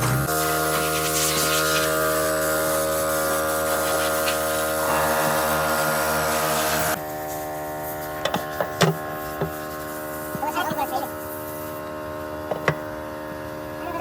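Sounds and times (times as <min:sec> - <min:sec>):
power tool running with hiss: 0:00.0 - 0:13.8.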